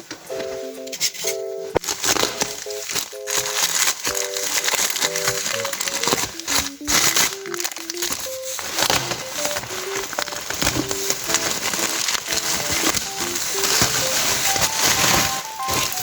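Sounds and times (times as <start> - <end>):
light background music: 0.0 - 16.0
packaging crinkling: 0.4 - 16.0.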